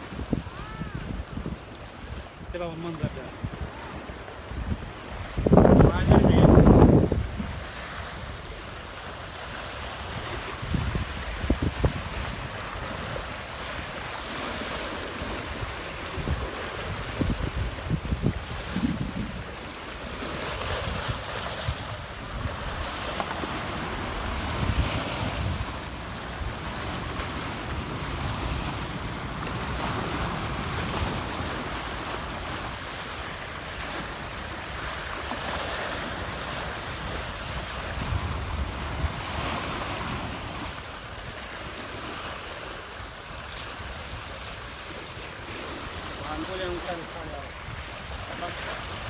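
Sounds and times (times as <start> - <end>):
sea water lapping: 0.0 - 49.0
wind buffeting microphone: 0.0 - 49.0.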